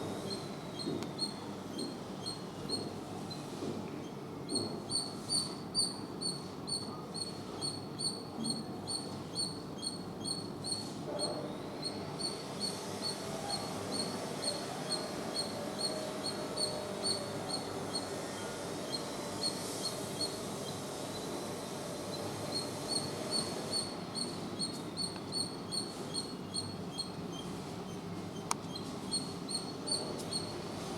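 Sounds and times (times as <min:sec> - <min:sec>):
squirrel chirping: 0:00.3 - 0:02.9, 0:04.5 - 0:18.2, 0:18.9 - 0:20.8, 0:22.5 - 0:30.6.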